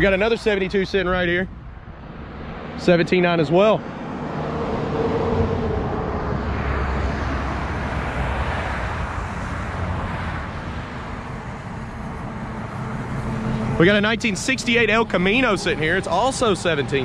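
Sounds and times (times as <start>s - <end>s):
vehicle passing by: 1.8s - 17.0s.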